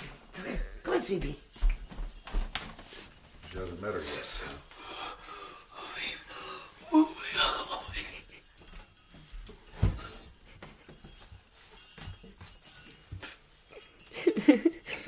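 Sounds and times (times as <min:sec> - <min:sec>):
collar jingling: 0:00.0 - 0:15.0.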